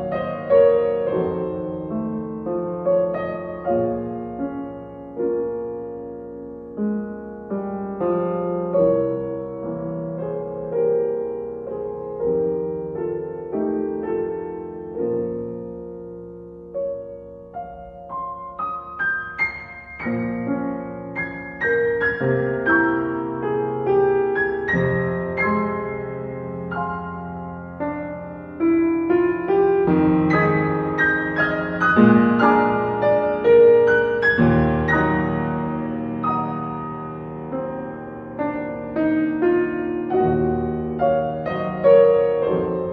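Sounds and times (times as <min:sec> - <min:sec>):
gentle piano music: 0:00.0 - 0:42.9.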